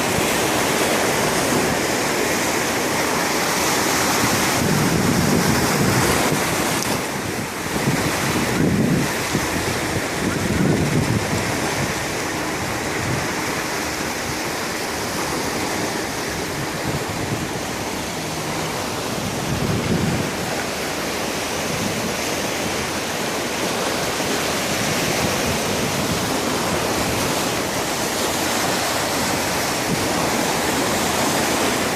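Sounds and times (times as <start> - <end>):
waves washing in: 0.0 - 31.9.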